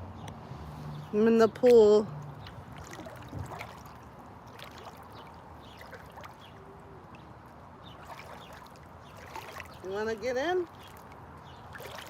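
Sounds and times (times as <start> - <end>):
pool water lapping and splashing: 0.1 - 12.0
water dripping and trickling: 0.2 - 12.0.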